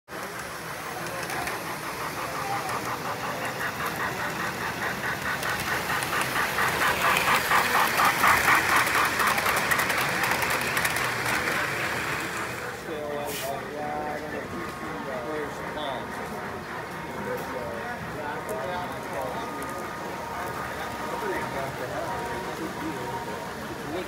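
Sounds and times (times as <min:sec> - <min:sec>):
model train rhythmic clatter: 0:00.1 - 0:24.0.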